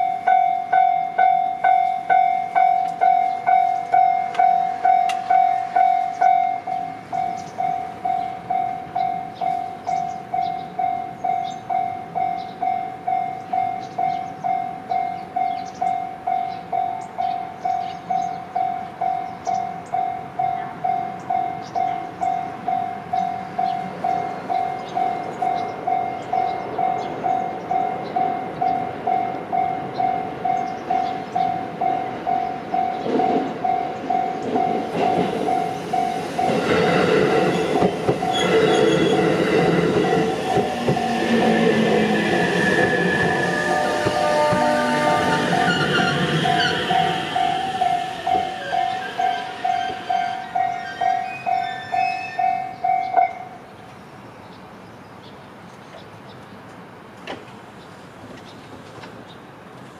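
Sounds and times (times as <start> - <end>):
level-crossing bell dinging: 0.0 - 53.6
electric train rumble and wheel clatter: 0.0 - 54.7, 55.6 - 59.9.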